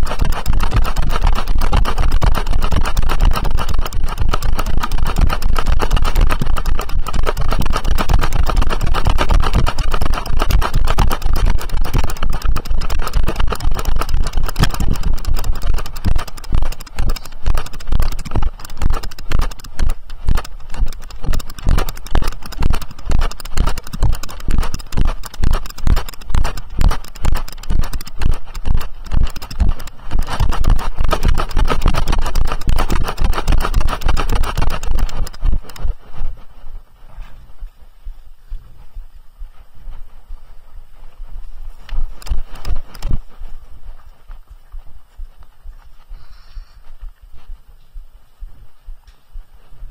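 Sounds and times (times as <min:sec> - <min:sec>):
camera handling rumble: 0:00.0 - 0:36.6, 0:41.8 - 0:47.5
horse hoofbeats thudding: 0:00.0 - 0:37.4, 0:38.6 - 0:49.9.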